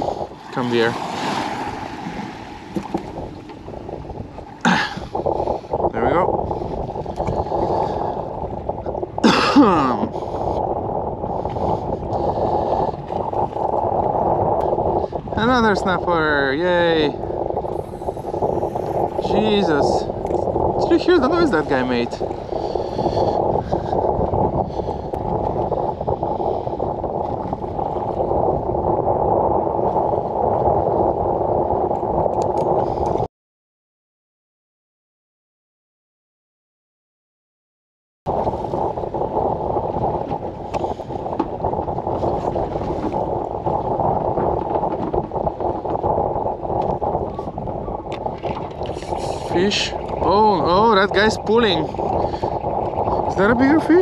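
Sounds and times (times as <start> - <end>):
boat engine and water rushing: 0.0 - 33.3, 38.3 - 54.0.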